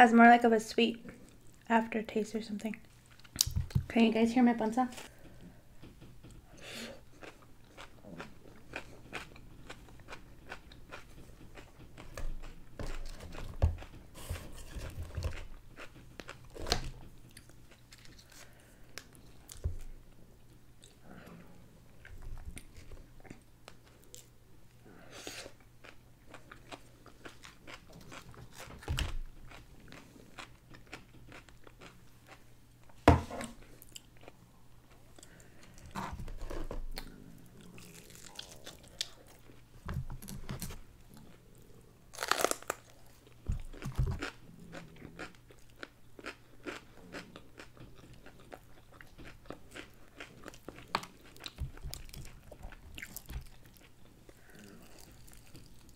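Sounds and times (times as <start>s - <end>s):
person chewing crunchy food: 6.4s - 24.4s, 25.2s - 32.5s, 33.4s - 55.9s.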